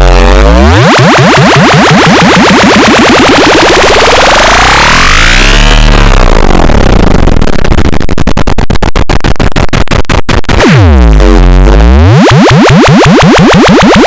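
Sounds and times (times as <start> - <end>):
electronic tone sweeping: 0.0 - 14.0
harsh synthesized buzz with clicks: 0.0 - 14.0
rapid electronic pulsing: 0.0 - 14.0.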